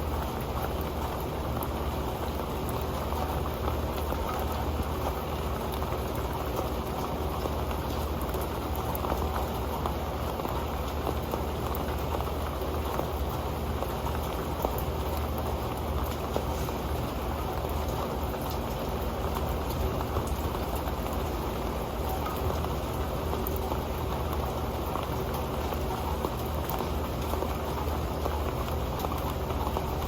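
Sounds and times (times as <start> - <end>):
rain pattering on a pan: 0.0 - 30.0.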